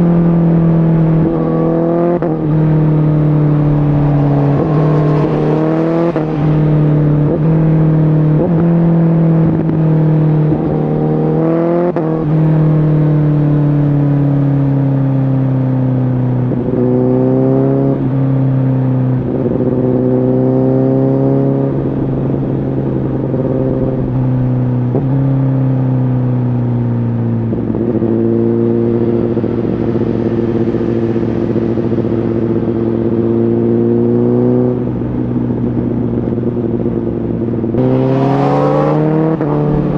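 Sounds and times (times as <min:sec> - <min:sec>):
motorcycle engine revving: 0:00.0 - 0:26.2, 0:27.3 - 0:39.9.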